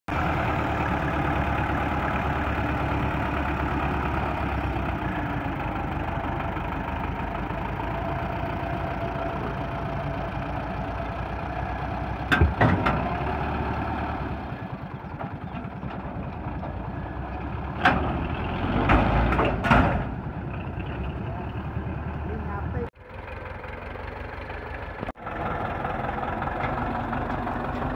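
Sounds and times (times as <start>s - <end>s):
tractor diesel engine running: 0.1s - 27.9s.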